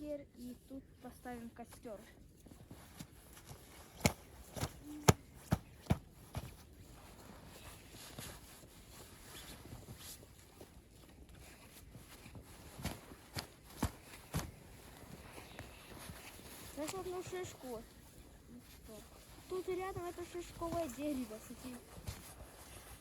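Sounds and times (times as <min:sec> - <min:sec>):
footsteps crunching in snow: 0:01.1 - 0:23.0.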